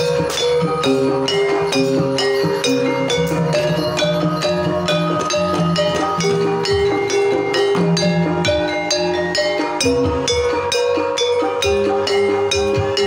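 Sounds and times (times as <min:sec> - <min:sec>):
gamelan ensemble playing: 0:00.0 - 0:13.0
hand drums beating: 0:00.0 - 0:13.0.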